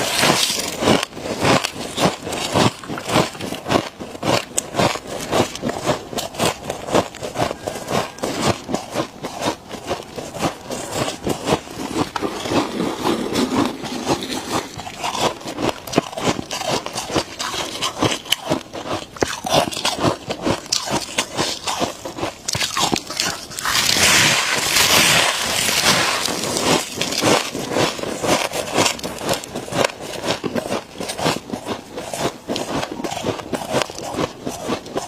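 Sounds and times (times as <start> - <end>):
crunching and chewing frost: 0.0 - 35.0.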